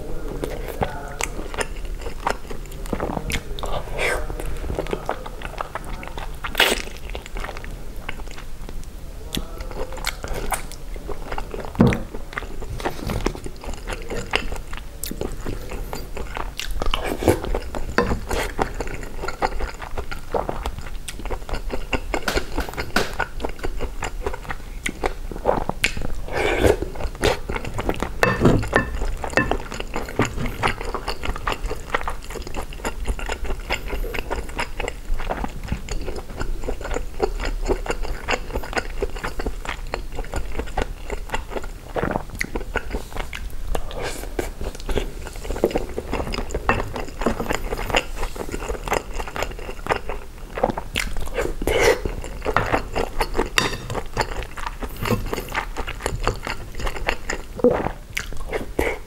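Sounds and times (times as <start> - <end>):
person chewing food: 0.3 - 59.0.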